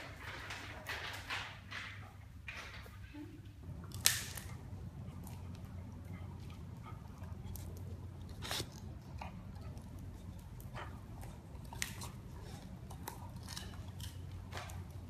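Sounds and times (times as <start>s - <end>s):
puppies chewing on hard floor: 0.0s - 15.0s
low steady hum: 2.0s - 15.0s.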